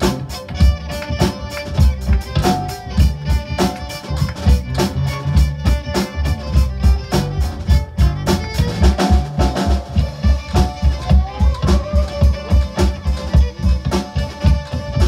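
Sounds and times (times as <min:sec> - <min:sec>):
driving drum beat: 0:00.0 - 0:15.0
electric bass: 0:00.0 - 0:15.0
fiddle playing a fast reel: 0:00.0 - 0:15.0.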